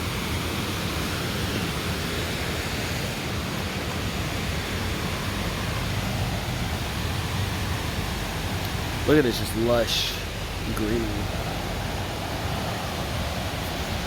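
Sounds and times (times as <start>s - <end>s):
waterfall roar: 0.0s - 14.0s.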